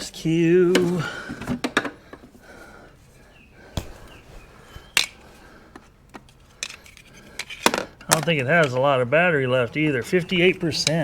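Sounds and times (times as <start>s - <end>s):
quiet fumbling: 0.0s - 11.0s.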